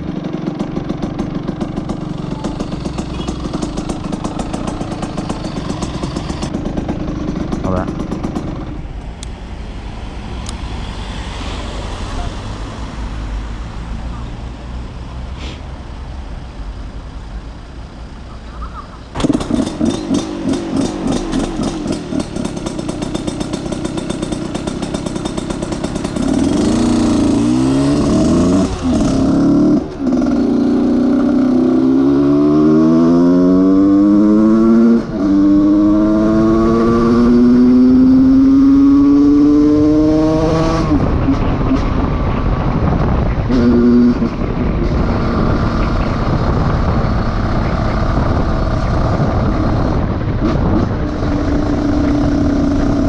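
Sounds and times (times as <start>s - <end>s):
motorcycle engine revving: 0.0s - 8.9s, 19.1s - 53.0s.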